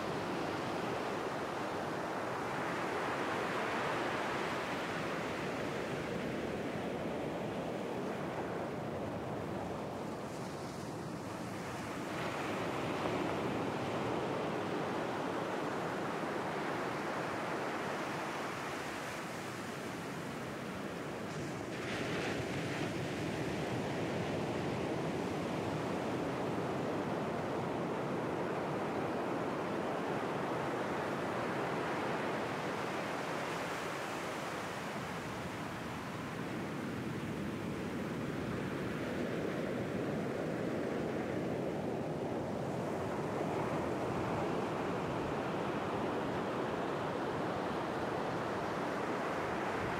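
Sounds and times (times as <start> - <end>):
ocean surf washing ashore: 0.0 - 49.9.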